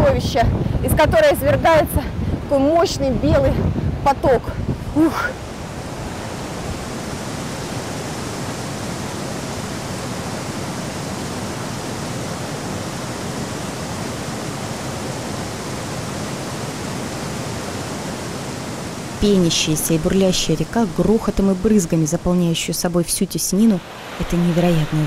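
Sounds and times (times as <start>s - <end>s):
waterfall roaring: 4.9s - 25.0s.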